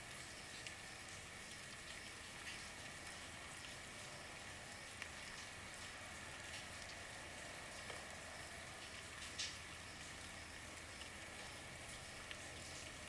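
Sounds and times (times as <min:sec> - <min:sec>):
rain hiss: 0:00.0 - 0:13.0
raindrops ticking: 0:00.0 - 0:13.0.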